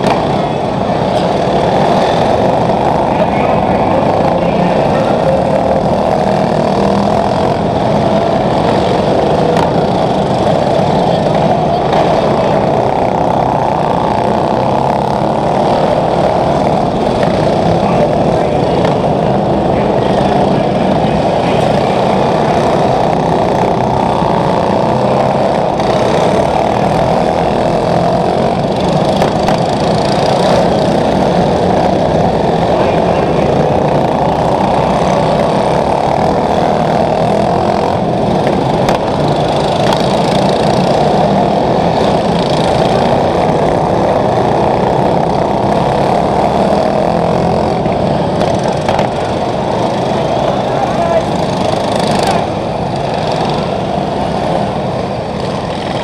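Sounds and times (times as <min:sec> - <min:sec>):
racing lawn mower engines: 0:00.0 - 0:56.0.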